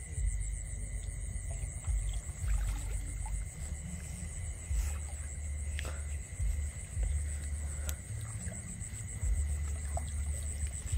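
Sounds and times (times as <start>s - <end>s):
night insects chirring: 0.0s - 10.9s.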